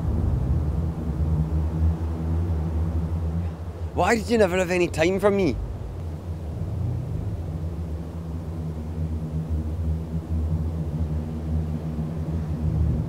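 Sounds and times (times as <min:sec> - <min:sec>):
faint hum: 0:00.0 - 0:13.0
low rumbling background noise: 0:00.0 - 0:13.0.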